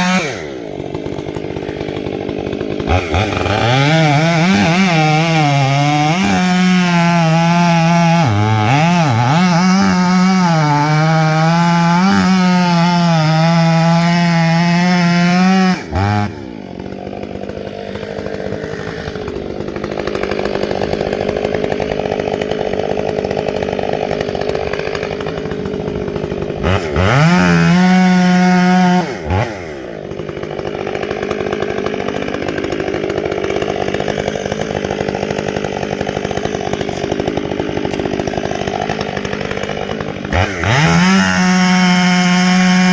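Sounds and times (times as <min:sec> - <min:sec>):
chainsaw running: 0:00.0 - 0:42.9.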